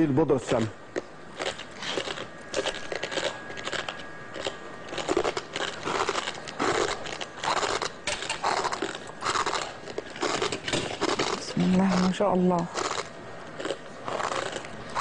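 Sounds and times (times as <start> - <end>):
glass being chewed and crunched: 0.4 - 15.0.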